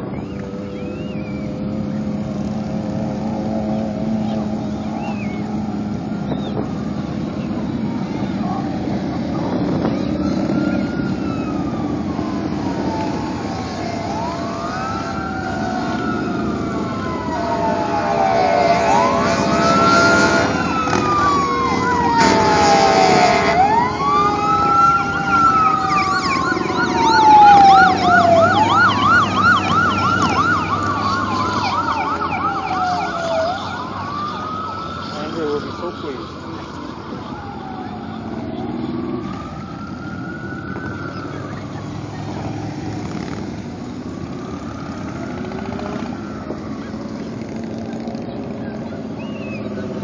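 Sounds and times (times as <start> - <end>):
emergency sirens wailing: 0.0 - 50.0
vehicle engines rumbling: 0.0 - 50.0.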